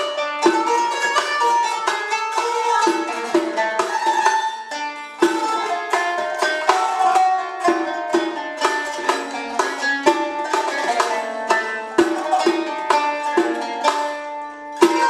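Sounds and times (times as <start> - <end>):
frame drum with jingles: 0.0 - 15.0
plucked zither melody: 0.0 - 15.0.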